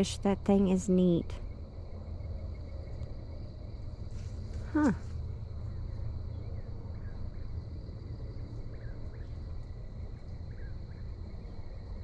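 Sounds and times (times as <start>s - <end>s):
crickets chirping: 0.0s - 12.0s
distant whippoorwill calls: 0.0s - 12.0s.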